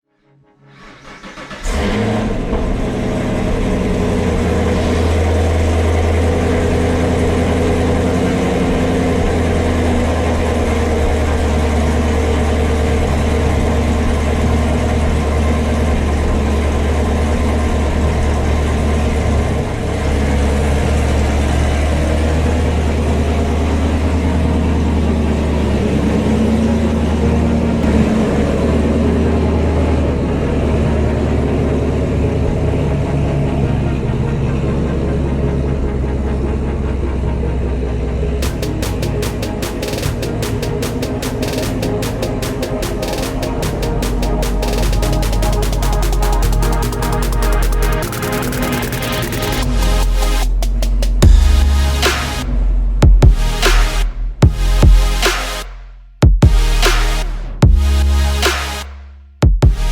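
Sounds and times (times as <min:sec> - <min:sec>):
vehicle engine idling: 0:01.0 - 0:55.3.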